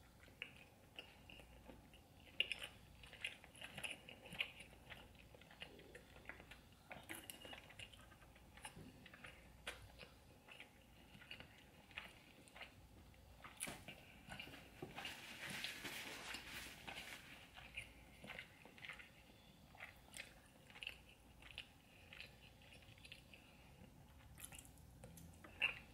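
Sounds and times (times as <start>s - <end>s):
person chewing wet mouth noises: 0.0s - 15.2s, 16.4s - 25.9s.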